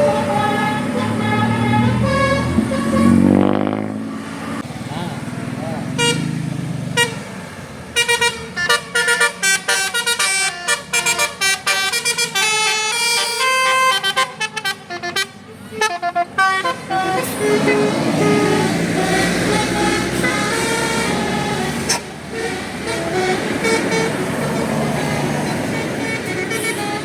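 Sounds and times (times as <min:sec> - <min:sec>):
musical bus horn tooting a tune: 0:00.0 - 0:03.6, 0:05.9 - 0:06.4, 0:07.0 - 0:07.3, 0:07.9 - 0:27.0
vehicle noise: 0:00.0 - 0:27.0.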